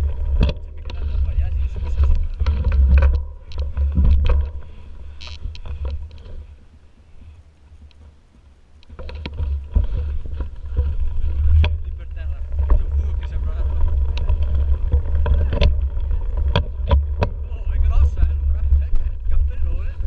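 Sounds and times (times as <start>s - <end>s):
bike rattling and knocking: 0.0s - 20.0s
wind rumble on microphone: 0.0s - 20.0s.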